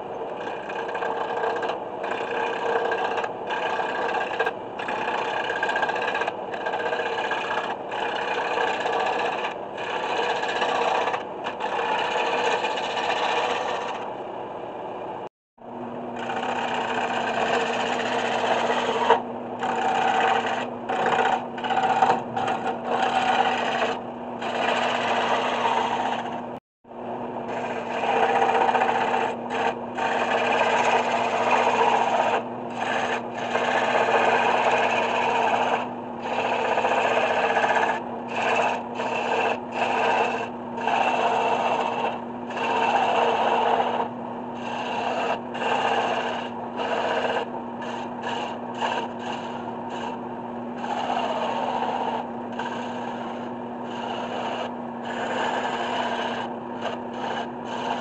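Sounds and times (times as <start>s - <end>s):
lathe motor hum: 0.0s - 58.0s
gouge rasping on wood: 0.3s - 14.0s, 16.2s - 26.5s, 27.5s - 50.2s, 50.8s - 58.0s.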